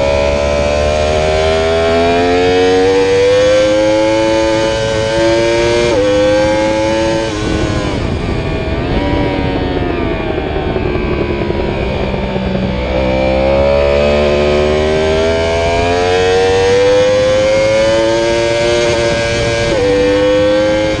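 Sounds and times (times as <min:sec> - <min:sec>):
motorcycle engine accelerating: 0:00.0 - 0:21.0
wind rushing over microphone: 0:00.0 - 0:21.0.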